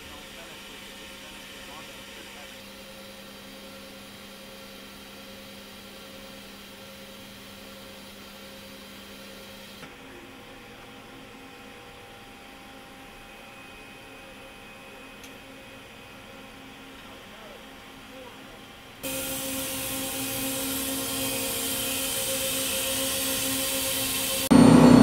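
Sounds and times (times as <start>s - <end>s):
factory machinery hum: 0.0s - 25.0s.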